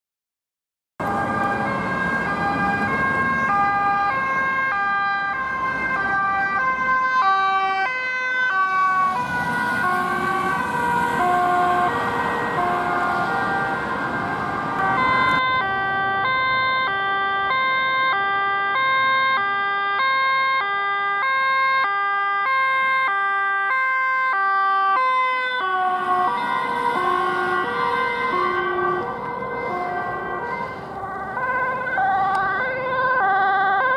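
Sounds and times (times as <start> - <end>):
two-tone sirens: 1.0 - 33.9.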